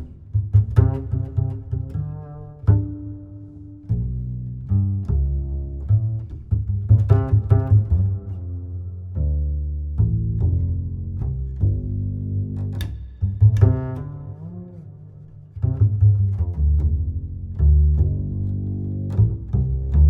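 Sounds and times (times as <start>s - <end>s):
low string background music: 0.0s - 20.0s.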